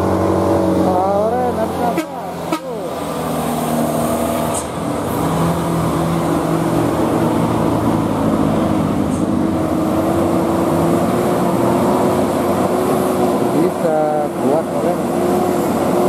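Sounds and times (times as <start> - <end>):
diesel truck engine labouring: 0.0 - 16.0.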